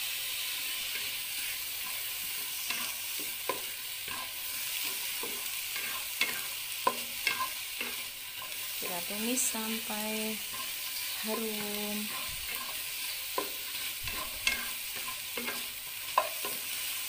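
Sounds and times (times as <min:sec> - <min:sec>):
vegetables sizzling in a pan: 0:00.0 - 0:17.0
spatula scraping and stirring: 0:00.7 - 0:17.0.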